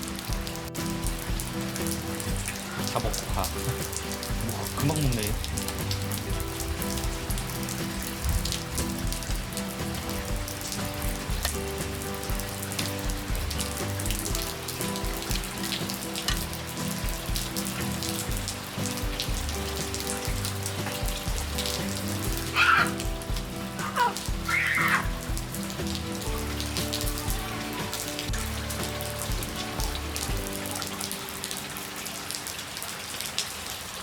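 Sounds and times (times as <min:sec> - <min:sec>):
soft background music: 0:00.0 - 0:32.8
steady rain pattering: 0:00.0 - 0:34.0.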